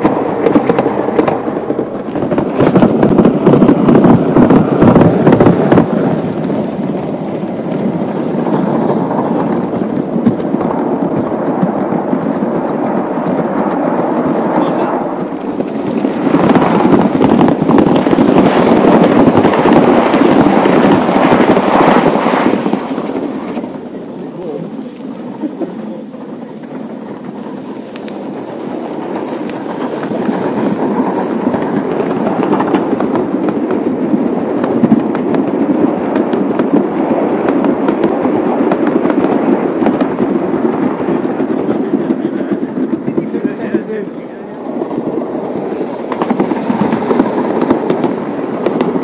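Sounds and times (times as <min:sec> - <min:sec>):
model train wheels rumbling: 0:00.0 - 0:49.0
wheels clicking over rails: 0:00.0 - 0:49.0.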